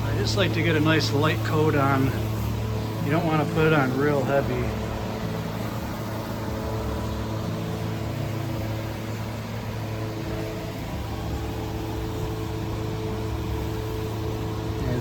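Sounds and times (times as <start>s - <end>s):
machine hum with hiss: 0.0s - 15.0s.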